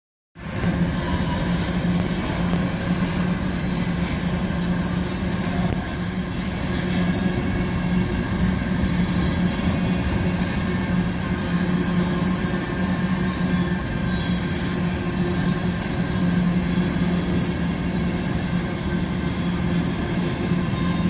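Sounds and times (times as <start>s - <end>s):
constant low hum: 0.4s - 21.0s
train wheels rumbling on rails: 0.4s - 21.0s.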